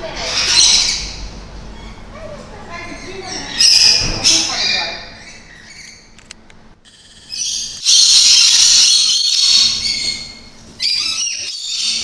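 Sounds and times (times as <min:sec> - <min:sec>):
parrots screeching: 0:00.0 - 0:06.1, 0:06.9 - 0:12.0.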